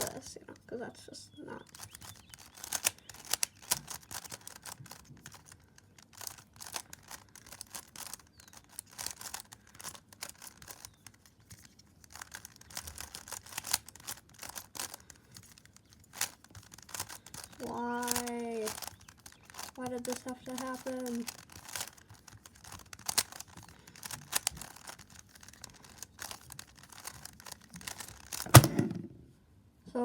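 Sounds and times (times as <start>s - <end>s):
plastic puzzle cube clicking: 1.6s - 29.0s.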